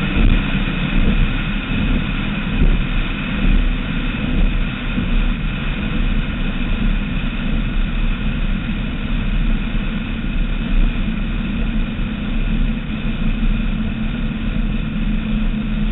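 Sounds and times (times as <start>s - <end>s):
boat engines droning: 0.0s - 15.9s
rushing wind: 0.0s - 15.9s
water noise: 0.0s - 15.9s.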